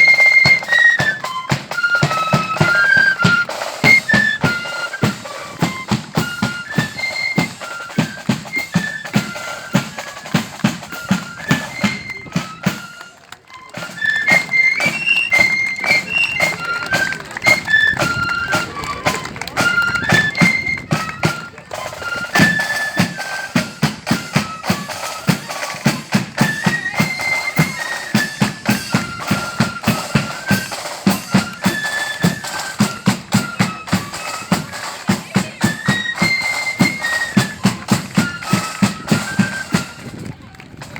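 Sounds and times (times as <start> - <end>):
flutes playing in unison: 0.0 - 40.9.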